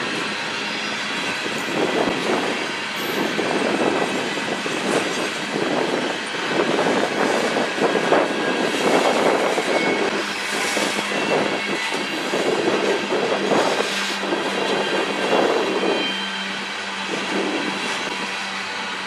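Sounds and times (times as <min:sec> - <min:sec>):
rail clicks: 0:00.0 - 0:19.0
train wheels rumbling on rails: 0:00.0 - 0:19.0.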